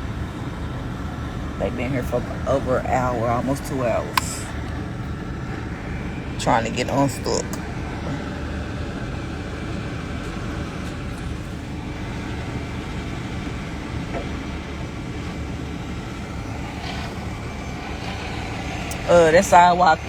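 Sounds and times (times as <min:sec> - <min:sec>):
heavy vehicle engines idling: 0:00.0 - 0:20.0
street traffic: 0:00.0 - 0:20.0.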